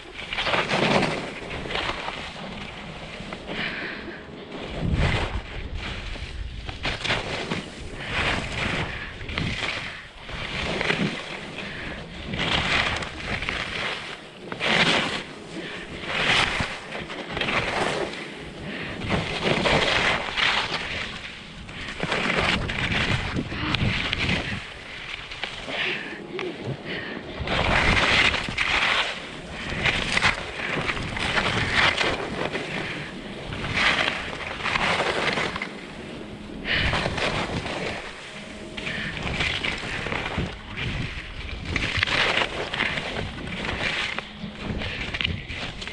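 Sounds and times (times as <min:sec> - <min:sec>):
skis scraping across snow: 0:00.0 - 0:45.9
wind noise on microphone: 0:00.0 - 0:45.9.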